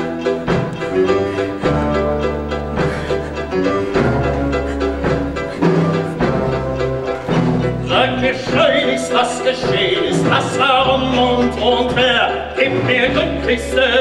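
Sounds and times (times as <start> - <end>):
theatre orchestra playing: 0.0 - 14.0.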